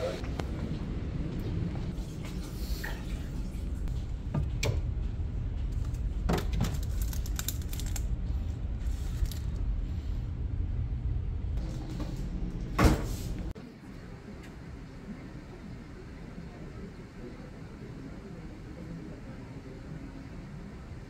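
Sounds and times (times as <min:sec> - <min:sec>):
refrigerator hum: 0:00.0 - 0:21.0.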